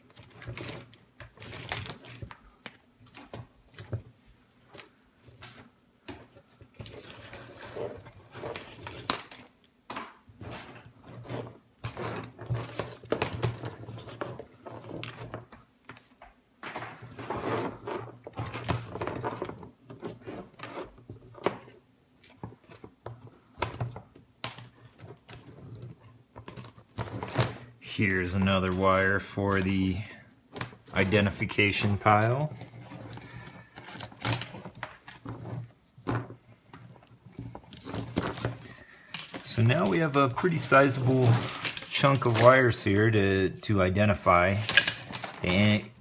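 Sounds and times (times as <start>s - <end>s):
wires and connectors rustling: 0.0s - 46.0s.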